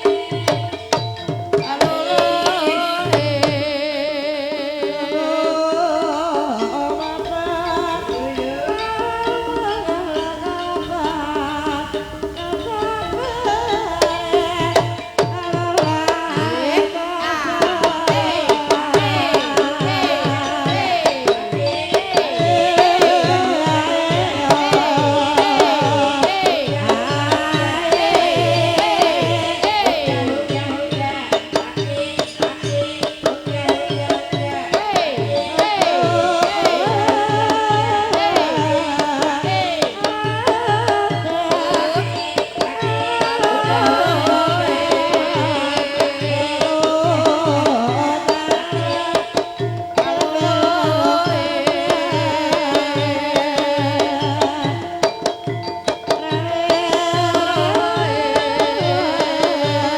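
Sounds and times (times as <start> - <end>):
hand drum steady beat: 0.0 - 59.9
person singing wavering melody: 0.0 - 59.9.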